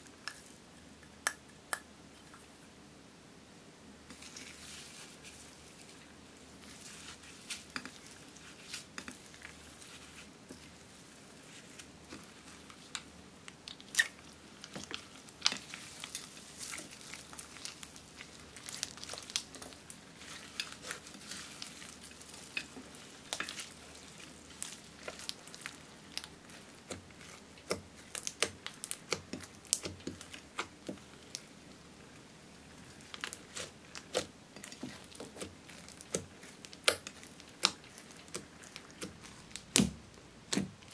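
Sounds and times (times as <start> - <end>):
slime crackling and squishing: 4.1 - 40.9.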